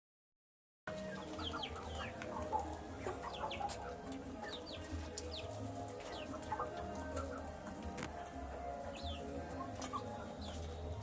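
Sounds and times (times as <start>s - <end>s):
baby chicks peeping: 0.9s - 11.0s.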